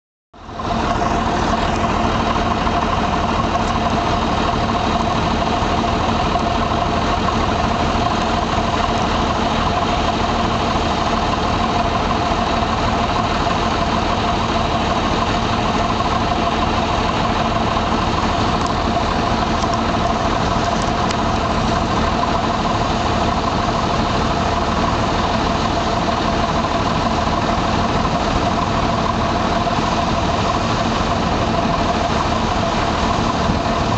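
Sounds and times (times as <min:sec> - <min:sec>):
combine harvester droning: 0:00.4 - 0:33.9.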